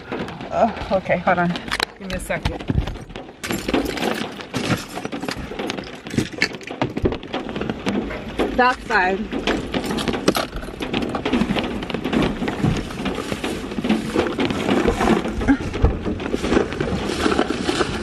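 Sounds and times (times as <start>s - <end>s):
bags bumping against seats: 0.0s - 18.0s
fabric and plastic rustling: 0.0s - 18.0s.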